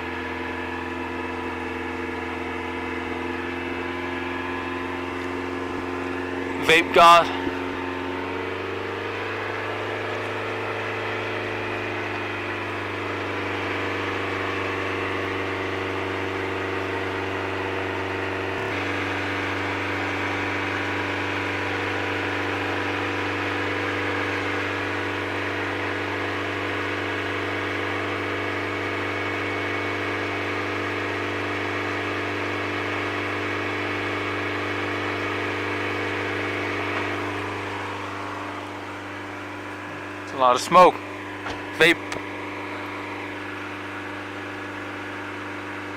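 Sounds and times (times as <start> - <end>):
car engine running at raised revs: 0.0 - 45.9.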